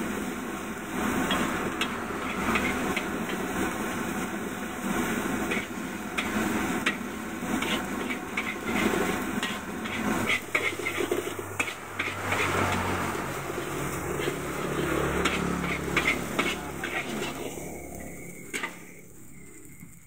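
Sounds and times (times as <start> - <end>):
frying hiss: 0.0 - 20.0
metal spatula scraping wok: 0.6 - 19.9.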